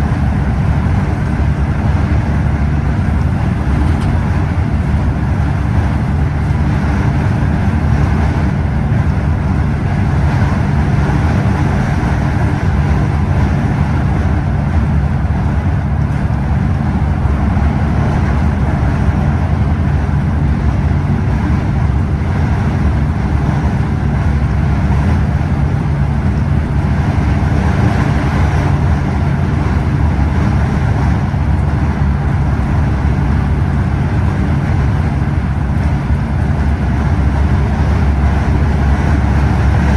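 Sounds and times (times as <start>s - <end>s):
coach engine humming: 0.0s - 39.9s
road and tyre noise: 0.0s - 39.9s.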